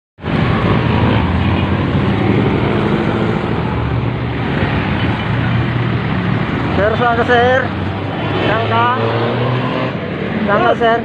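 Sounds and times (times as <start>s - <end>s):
road traffic noise: 0.2s - 11.0s.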